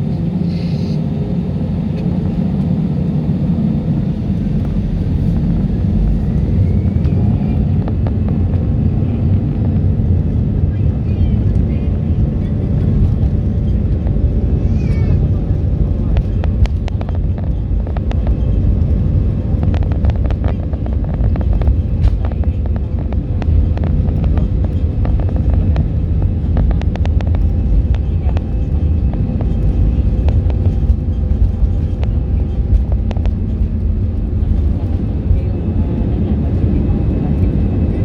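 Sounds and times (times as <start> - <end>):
airliner rumble in cabin: 0.0 - 38.0.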